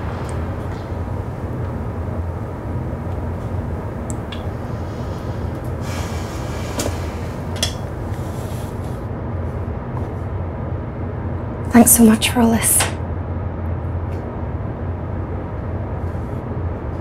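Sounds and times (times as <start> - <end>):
ship engines rumbling: 0.0 - 17.0.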